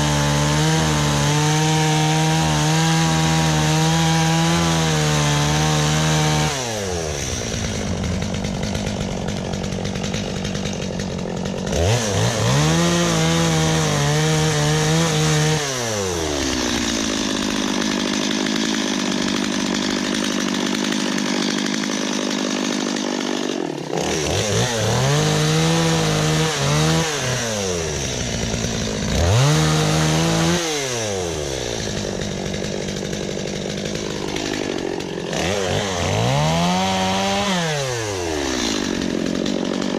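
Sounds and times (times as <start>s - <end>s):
chainsaw cutting wood: 0.0s - 39.9s
chainsaw revving and idling: 0.0s - 39.9s.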